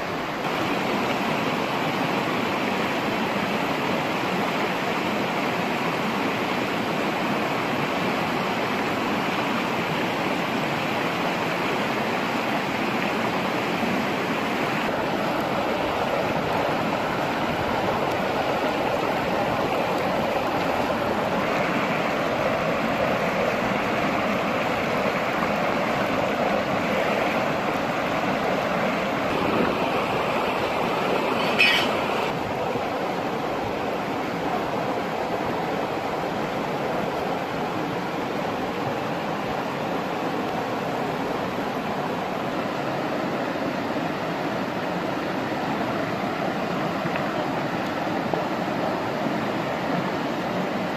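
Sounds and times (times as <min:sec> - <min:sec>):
river flowing over rocks: 0:00.0 - 0:50.9.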